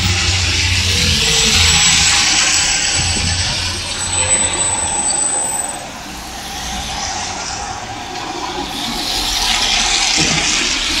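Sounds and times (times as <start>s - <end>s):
fire truck engine rumble: 0.0s - 11.0s
tyres hissing on wet road: 0.0s - 11.0s.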